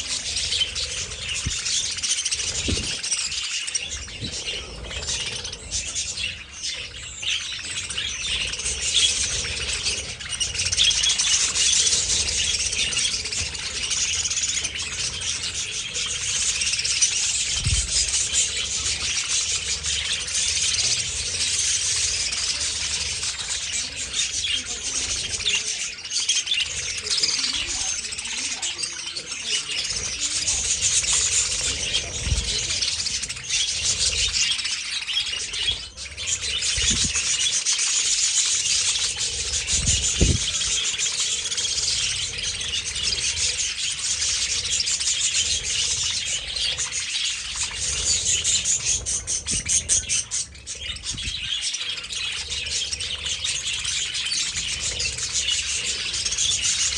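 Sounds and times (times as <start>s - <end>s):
budgerigars chattering and chirping: 0.0s - 56.9s.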